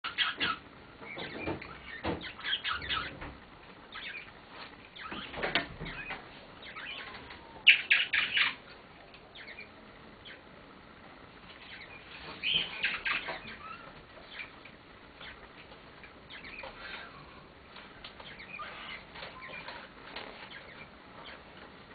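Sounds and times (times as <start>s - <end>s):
parakeet chirps and clicks: 0.0s - 3.2s, 3.9s - 10.5s, 11.6s - 17.1s, 17.7s - 21.7s.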